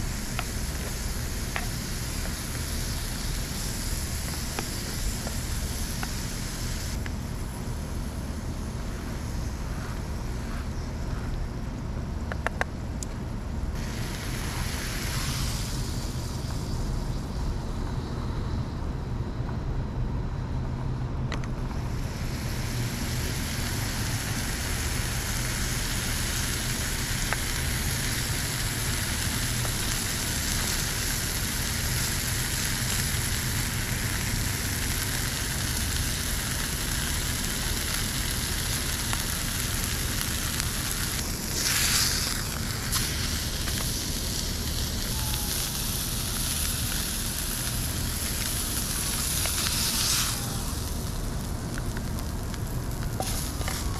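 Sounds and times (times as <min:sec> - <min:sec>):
meat and onions sizzling in pan: 0:00.0 - 0:10.9, 0:13.8 - 0:17.0, 0:21.8 - 0:53.9
steady low rumble: 0:00.0 - 0:53.9.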